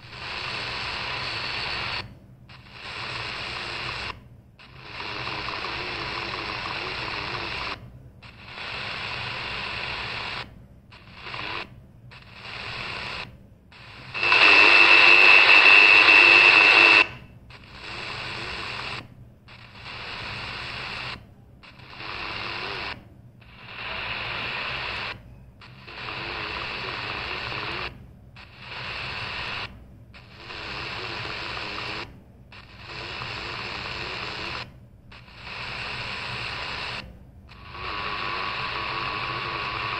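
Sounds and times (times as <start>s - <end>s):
radio static: 0.0s - 39.9s.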